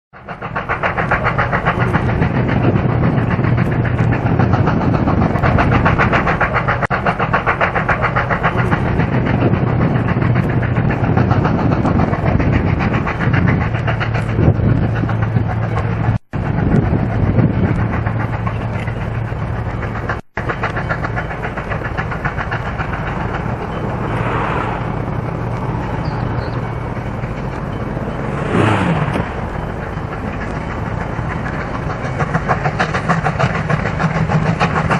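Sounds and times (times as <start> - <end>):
steam locomotive running: 0.1 - 34.9.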